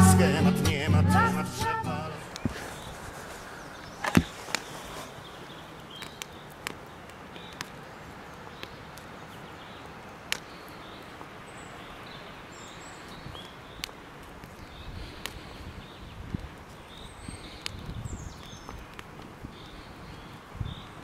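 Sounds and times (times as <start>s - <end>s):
campfire crackling and popping: 0.0s - 21.0s
steady outdoor hiss: 0.0s - 21.0s
faint distant bird chirps: 2.2s - 21.0s.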